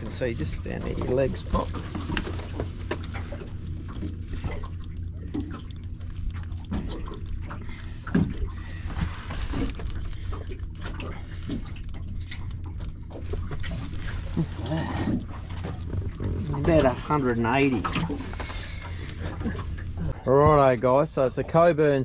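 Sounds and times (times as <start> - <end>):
steady low rumble: 0.0 - 22.0
water lapping against boat hull: 0.0 - 22.0.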